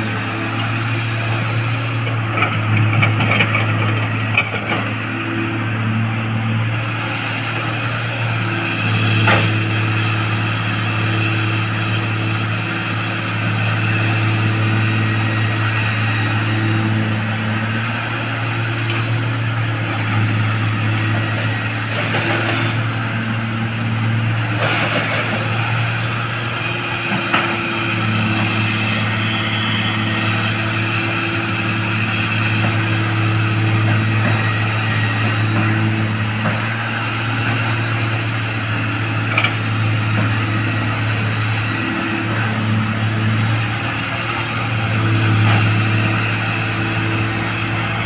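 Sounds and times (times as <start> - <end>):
heavy diesel engine droning: 0.0 - 48.0.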